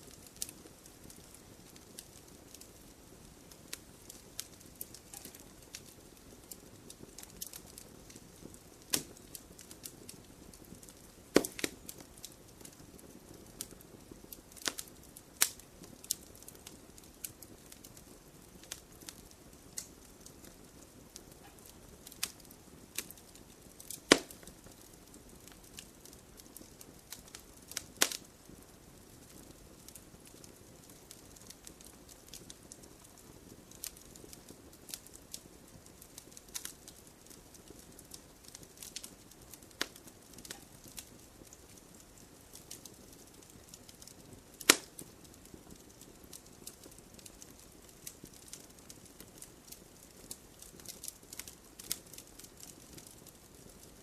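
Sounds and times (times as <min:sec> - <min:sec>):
campfire crackling: 0:00.0 - 0:54.0
fire low hiss: 0:00.0 - 0:54.0.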